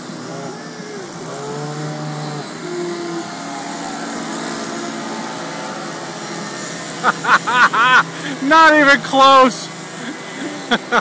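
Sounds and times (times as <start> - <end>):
model plane motors droning: 0.0 - 11.0.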